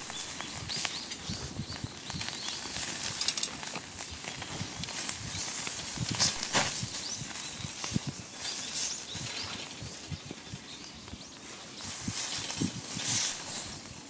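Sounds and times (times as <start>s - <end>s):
steady hiss: 0.0s - 14.0s
wood fire crackling: 0.0s - 14.0s.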